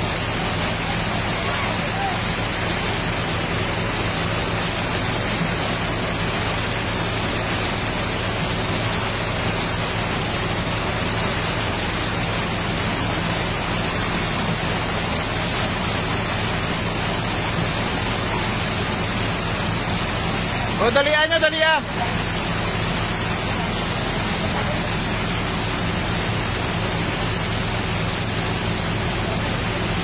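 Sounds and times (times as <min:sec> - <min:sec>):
excavator diesel engine drone: 0:00.0 - 0:30.0
fast-flowing floodwater: 0:00.0 - 0:30.0
heavy rain: 0:00.0 - 0:30.0.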